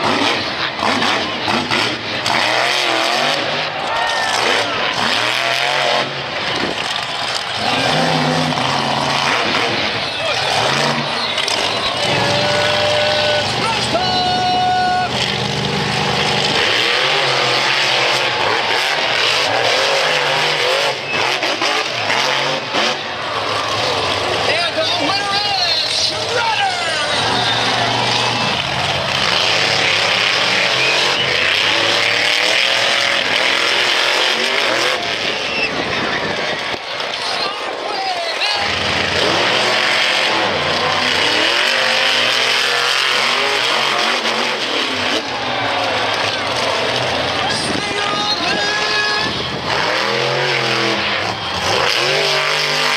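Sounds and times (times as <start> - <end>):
truck engine revving: 0.0 - 52.9.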